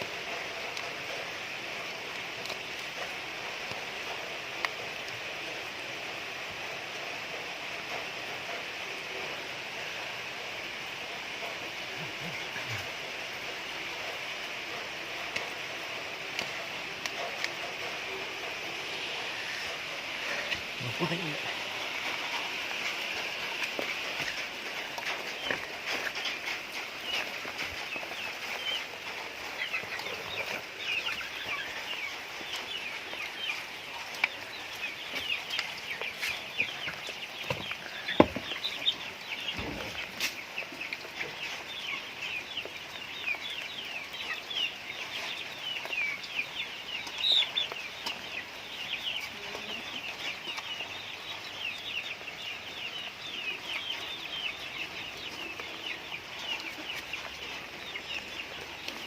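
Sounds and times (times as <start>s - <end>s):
chickens cheeping: 0.0s - 59.0s.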